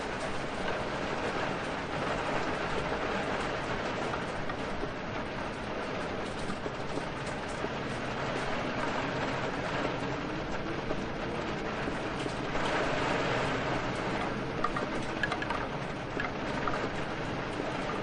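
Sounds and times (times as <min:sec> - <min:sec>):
sharp raindrops: 0:00.0 - 0:18.0
steady rain: 0:00.0 - 0:18.0.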